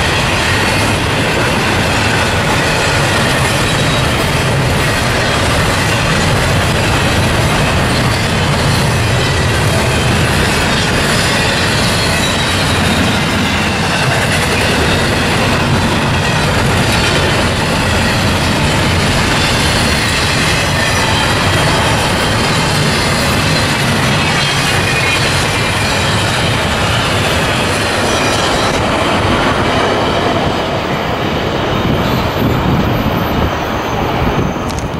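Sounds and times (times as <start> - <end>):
train wheels clattering on rail: 0.0 - 34.9.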